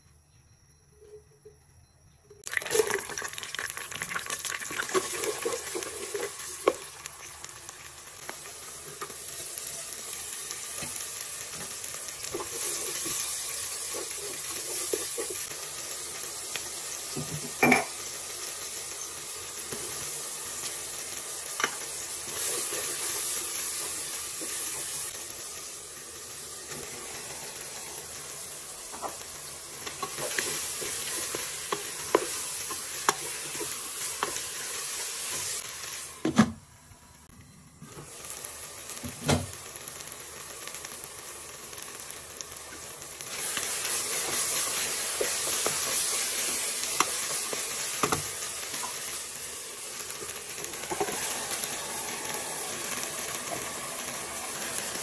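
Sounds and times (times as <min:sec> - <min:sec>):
food sizzling in hot oil: 0:02.4 - 0:55.0.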